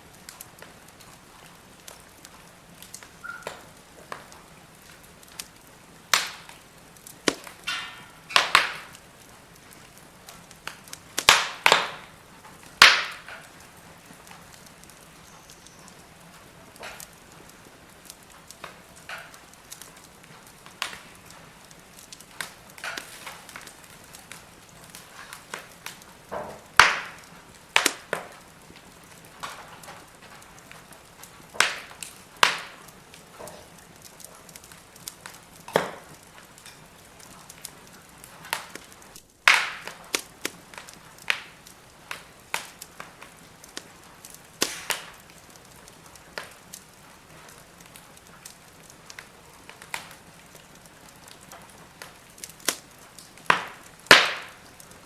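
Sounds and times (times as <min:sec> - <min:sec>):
faint steady hiss: 0:00.0 - 0:55.0
firewood crackling and popping: 0:00.0 - 0:55.0.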